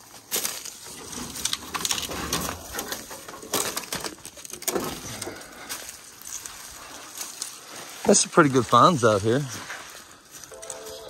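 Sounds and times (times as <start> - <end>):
footsteps crunching through dry grass: 0.0 - 11.0.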